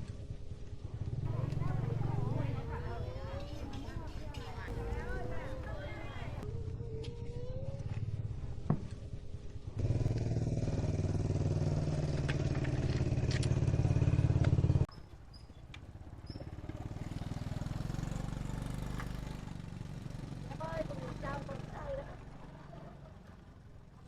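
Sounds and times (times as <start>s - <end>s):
motorbike engine running: 0.0s - 14.9s, 15.9s - 23.6s
quieter engine: 0.0s - 24.0s.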